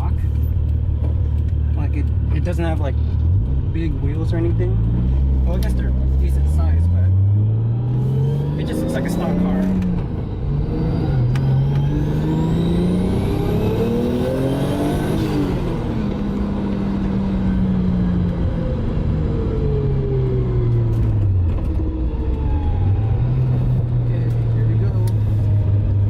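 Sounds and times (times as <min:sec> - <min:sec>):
car engine accelerating: 0:00.0 - 0:26.0
high turbo whine: 0:00.0 - 0:26.0.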